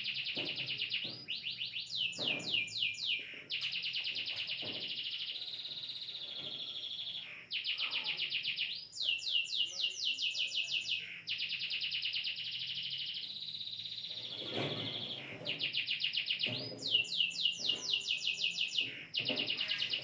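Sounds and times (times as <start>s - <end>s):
buzzy bird trill: 0.0s - 20.0s.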